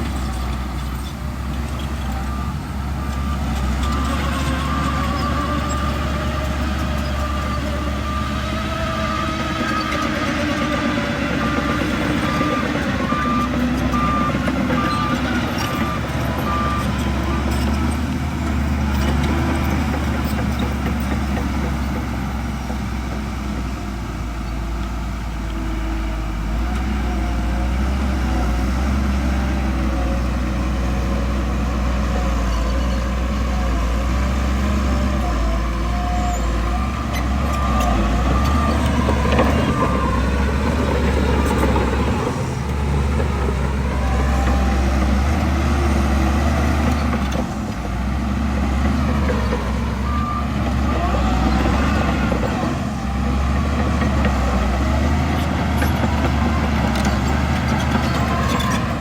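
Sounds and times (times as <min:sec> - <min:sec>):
diesel earthmoving machinery droning: 0:00.0 - 0:59.0.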